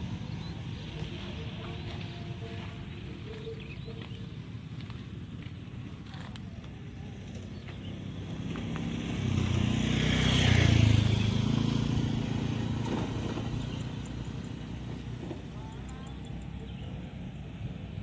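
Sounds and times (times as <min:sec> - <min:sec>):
motorcycle passing: 0:00.0 - 0:18.0.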